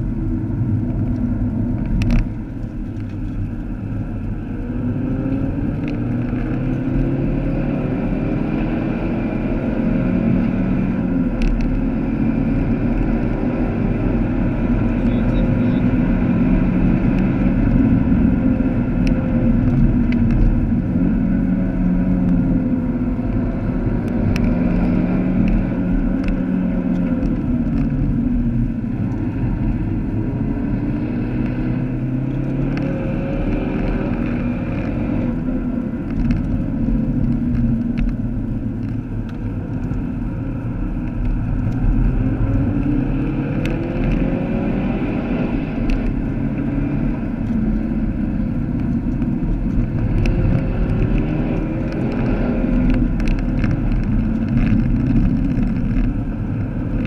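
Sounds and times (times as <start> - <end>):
car engine revving through gears: 0.0 - 57.0
road and tyre noise: 0.0 - 57.0.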